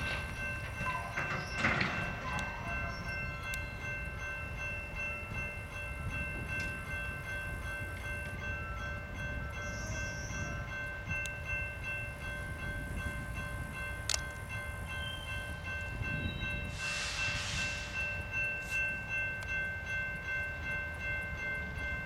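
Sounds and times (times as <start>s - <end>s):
distant freight train rumble: 0.0s - 22.0s
high-pitched steady tones: 0.0s - 22.0s.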